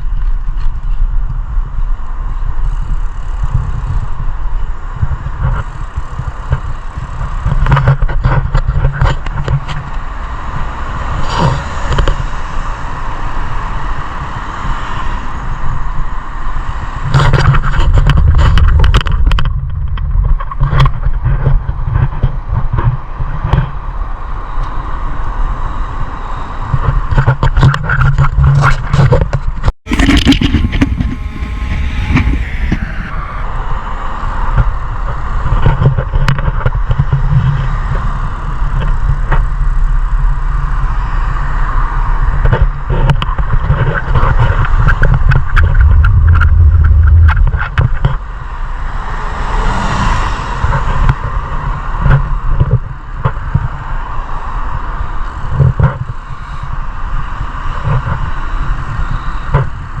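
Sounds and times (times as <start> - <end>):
wind and road rumble: 0.0 - 25.3, 25.9 - 34.2, 35.2 - 60.0.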